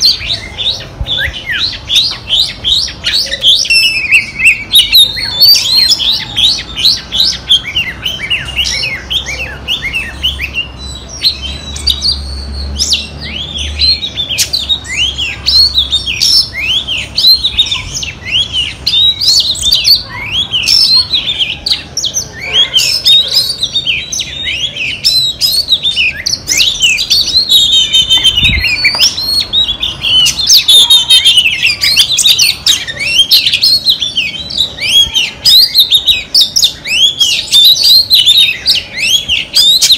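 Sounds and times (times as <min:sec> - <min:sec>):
bird chirping and whistling: 0:00.0 - 0:39.9.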